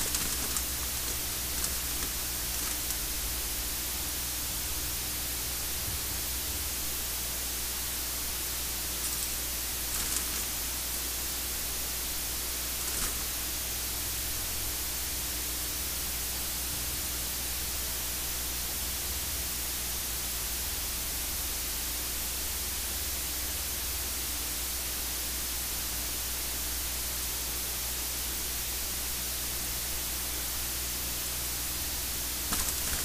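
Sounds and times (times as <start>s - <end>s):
faint low hum: 0.0s - 24.9s, 25.8s - 33.0s
static hiss: 0.0s - 33.0s.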